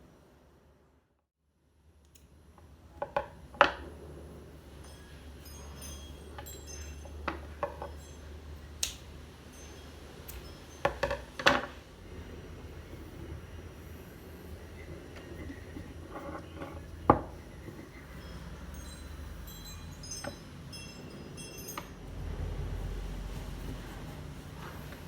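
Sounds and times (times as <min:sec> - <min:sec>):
steady low hum: 0:02.1 - 0:25.0.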